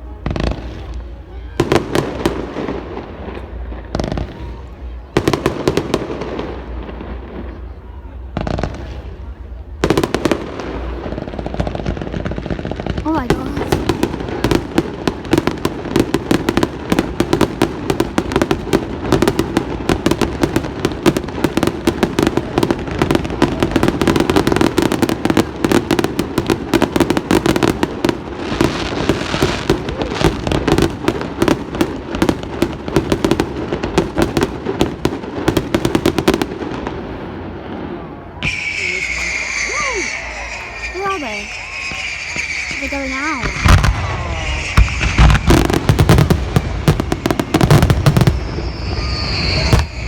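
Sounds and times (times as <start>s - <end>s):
fireworks barrage: 0.0s - 50.0s.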